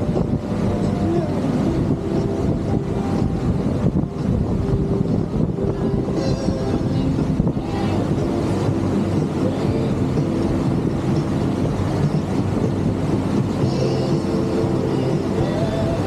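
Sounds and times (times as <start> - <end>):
boat motor running: 0.0 - 16.0
rushing water: 0.0 - 16.0
wind: 0.0 - 16.0.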